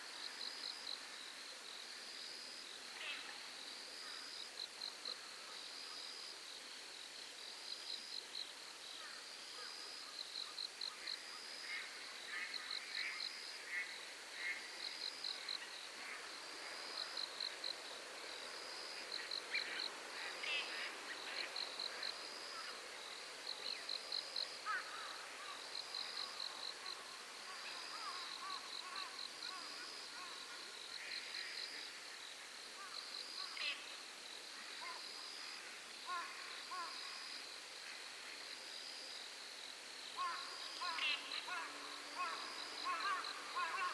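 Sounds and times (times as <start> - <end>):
faint hiss: 0.0 - 43.9.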